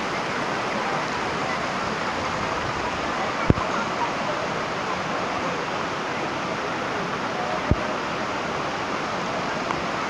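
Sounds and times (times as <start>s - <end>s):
stream rapids rushing over rocks: 0.0s - 10.0s.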